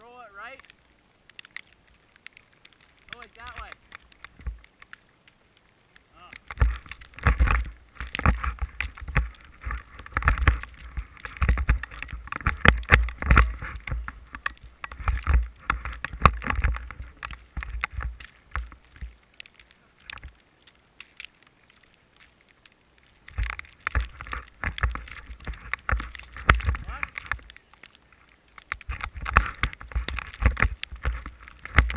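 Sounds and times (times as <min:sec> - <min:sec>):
wind and snow buffeting microphone: 0:00.0 - 0:31.9.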